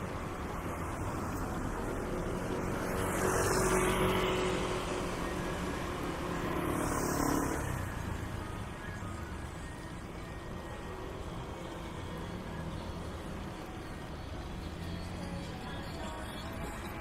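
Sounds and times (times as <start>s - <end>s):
road vehicles passing: 0.0s - 17.0s.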